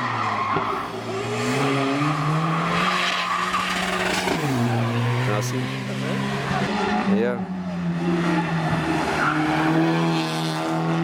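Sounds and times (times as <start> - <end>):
race car engine revving: 0.6 - 11.0.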